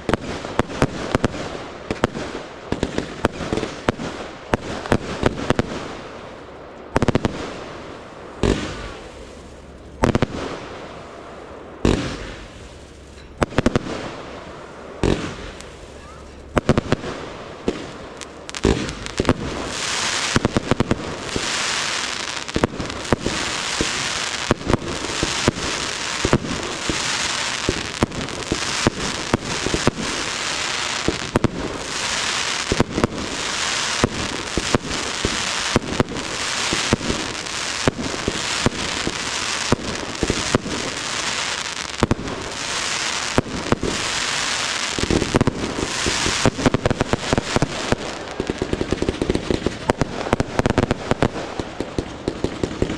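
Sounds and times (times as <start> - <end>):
fireworks bangs: 0.0 - 6.3, 6.9 - 52.9
steady dense hiss: 0.0 - 52.9.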